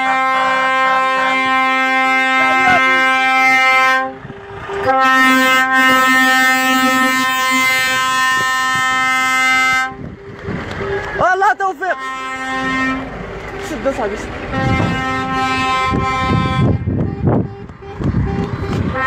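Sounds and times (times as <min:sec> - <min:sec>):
truck air horn blasts: 0:00.0 - 0:10.1, 0:11.8 - 0:13.2, 0:14.4 - 0:19.0.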